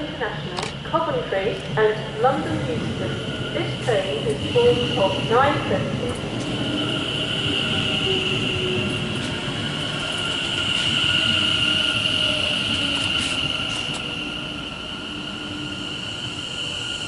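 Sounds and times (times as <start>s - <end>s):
electric train arriving: 0.0s - 17.0s.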